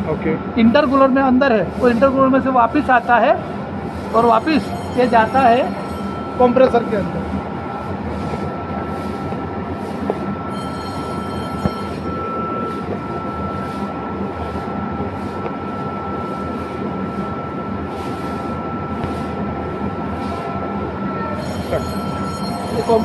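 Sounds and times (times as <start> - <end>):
air compressor running with whine: 0.0 - 23.0.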